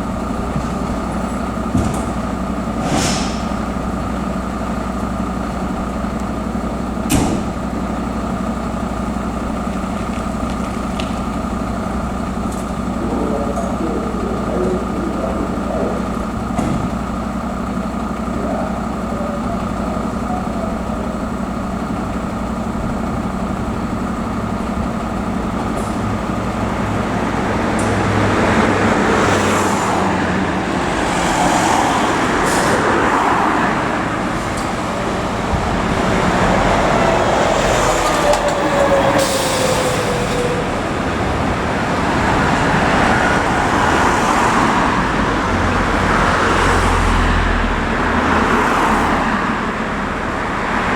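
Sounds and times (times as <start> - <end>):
diesel engines running: 0.0 - 50.9
vehicles driving past: 0.0 - 50.9.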